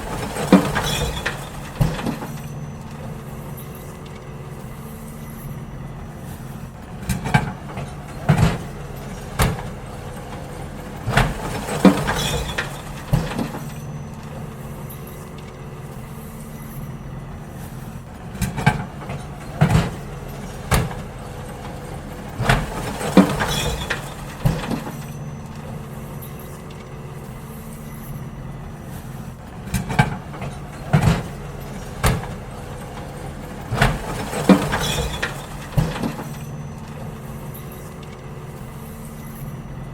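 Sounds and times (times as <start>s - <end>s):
bins clanking and banging: 0.0s - 39.9s
garbage truck engine running: 0.0s - 39.9s.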